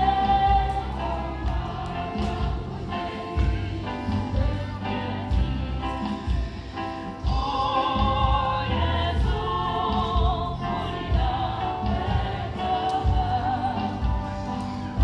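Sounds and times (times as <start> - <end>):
choir singing: 0.0 - 15.0
low pulsing accompaniment: 0.0 - 15.0.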